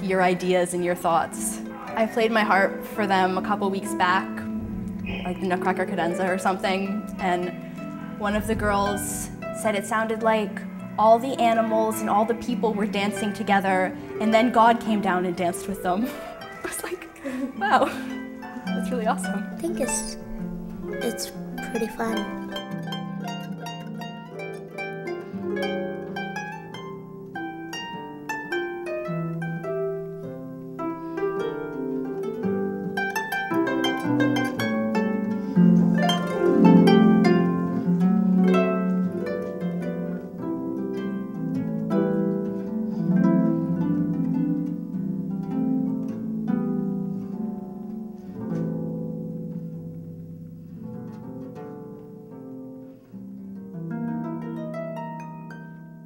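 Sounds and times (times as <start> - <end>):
solo harp playing: 0.0 - 56.0.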